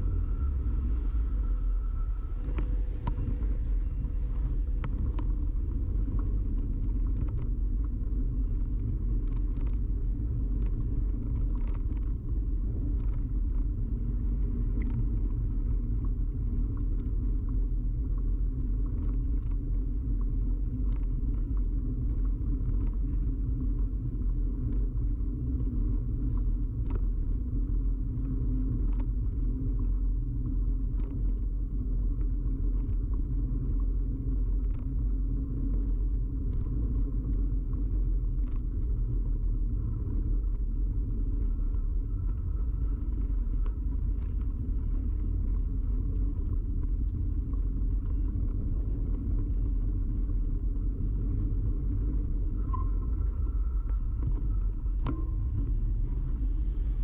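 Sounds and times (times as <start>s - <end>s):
bicycle rumbling in motion: 0.0s - 57.0s.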